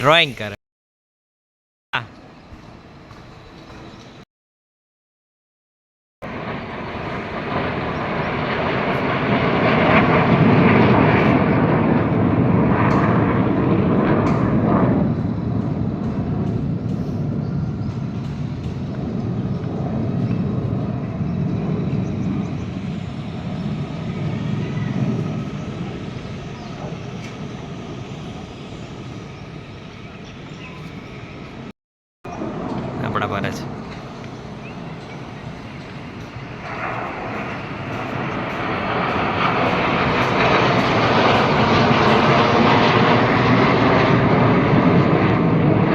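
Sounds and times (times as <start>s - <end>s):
jet aircraft flying past: 6.2s - 31.7s, 32.3s - 45.9s.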